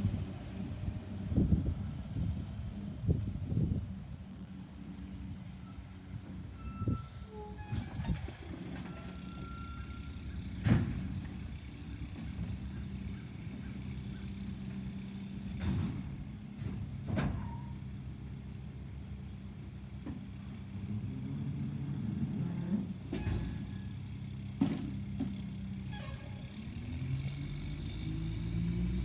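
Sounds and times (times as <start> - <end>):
garbage truck engine running: 0.0 - 29.0.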